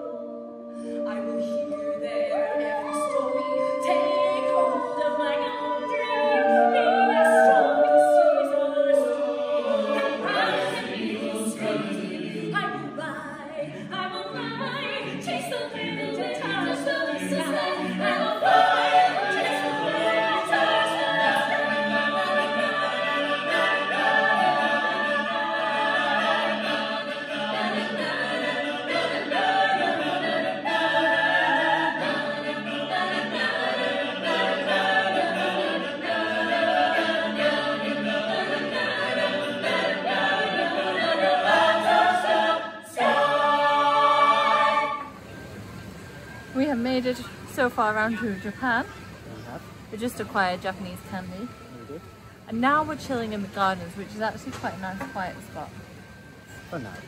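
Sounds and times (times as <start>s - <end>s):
a cappella group singing in harmony: 0.0s - 57.0s.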